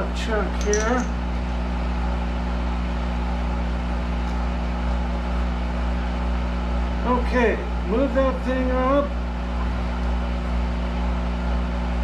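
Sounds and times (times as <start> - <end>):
lathe running hum: 0.0 - 12.0.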